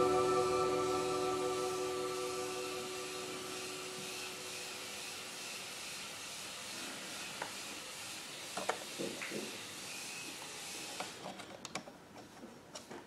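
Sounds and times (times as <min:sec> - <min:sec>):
steady background hiss: 0:00.0 - 0:11.1.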